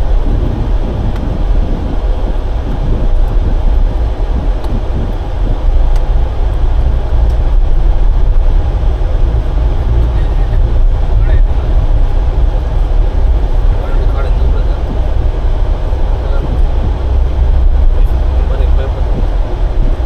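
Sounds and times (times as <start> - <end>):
car interior road and engine rumble: 0.0 - 20.0.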